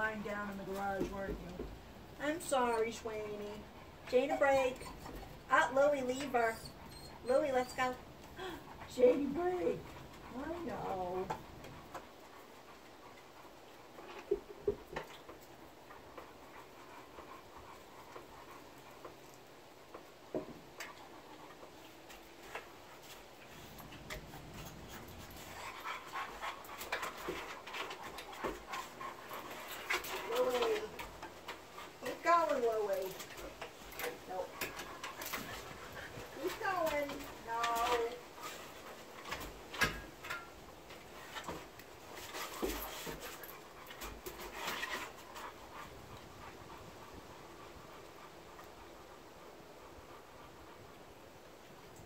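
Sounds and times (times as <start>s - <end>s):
dog panting: 0.3s - 52.0s.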